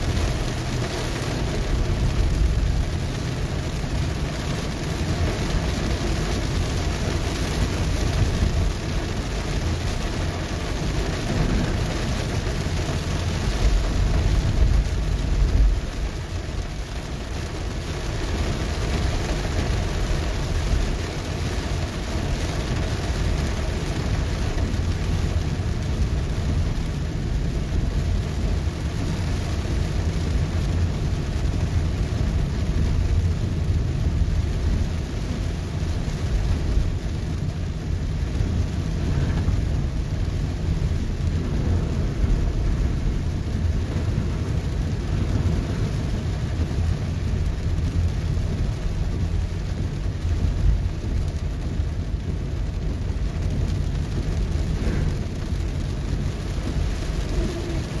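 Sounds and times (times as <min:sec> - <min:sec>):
heavy rain on car roof: 0:00.0 - 0:58.0
road and engine rumble: 0:00.0 - 0:58.0.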